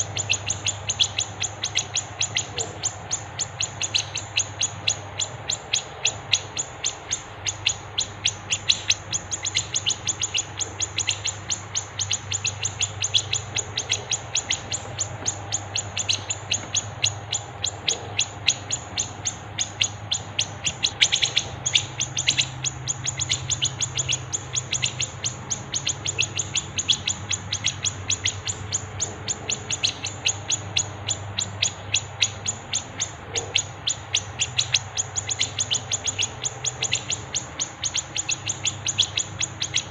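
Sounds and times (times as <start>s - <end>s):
faint low hum: 0.0s - 39.9s
songbirds chirping: 0.0s - 39.9s.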